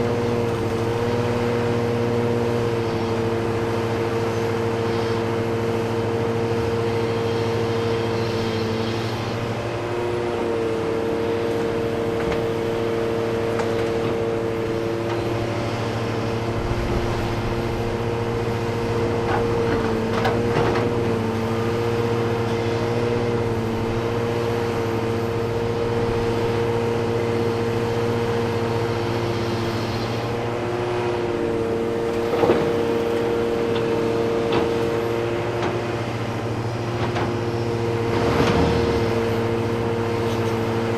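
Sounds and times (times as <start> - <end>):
heavy diesel engines working: 0.0 - 40.9.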